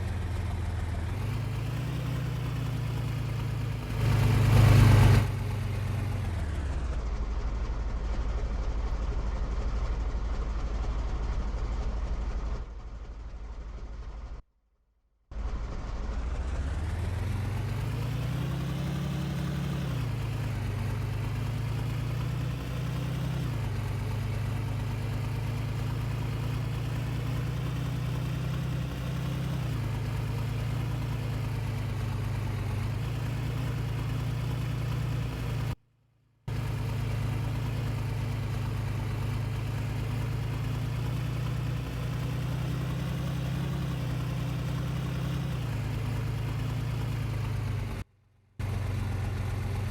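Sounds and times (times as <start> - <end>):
vehicle engine running: 0.0 - 14.4, 15.3 - 35.8, 36.5 - 49.9.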